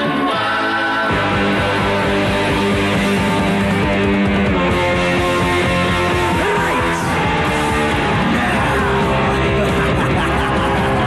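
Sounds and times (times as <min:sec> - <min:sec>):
punk rock band playing: 0:00.0 - 0:11.0.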